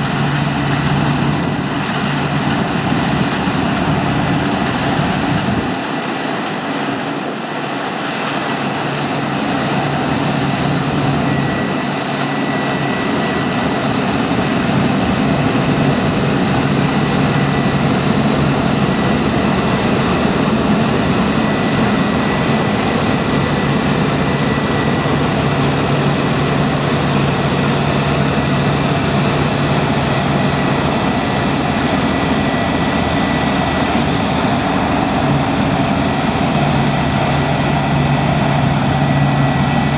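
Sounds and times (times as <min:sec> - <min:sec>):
diesel farm machinery running: 0:00.0 - 0:39.9
thin high whine: 0:07.1 - 0:39.9.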